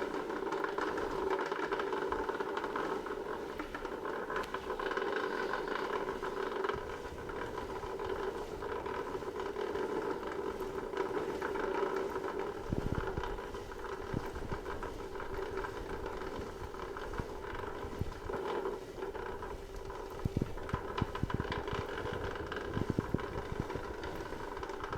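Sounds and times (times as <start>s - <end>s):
bike rollers grating drone: 0.0s - 24.9s.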